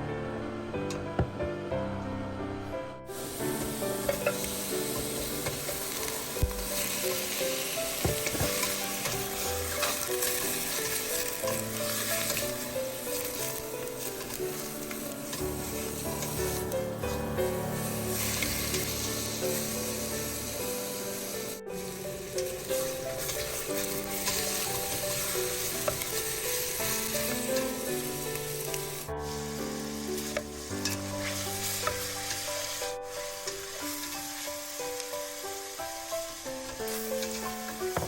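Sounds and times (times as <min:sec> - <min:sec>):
background music melody: 0:00.0 - 0:38.0
food sizzling in a pan: 0:03.1 - 0:38.0.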